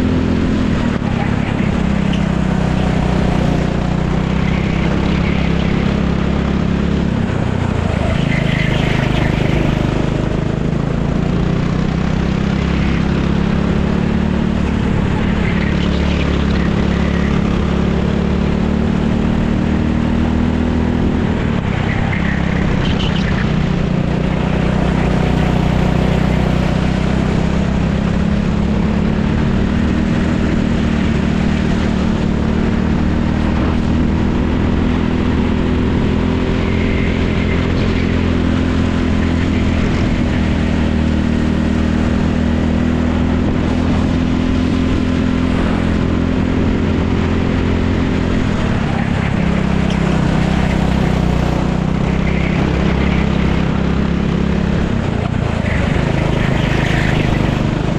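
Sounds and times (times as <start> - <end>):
kart engine running hard: 0.0 - 57.9.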